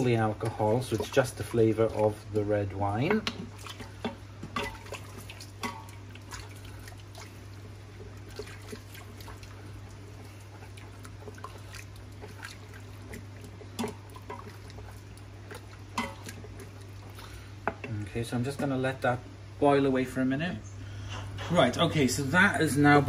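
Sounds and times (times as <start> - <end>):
wine bubbling at the boil: 0.0 - 19.5
steady low hum: 0.0 - 23.0.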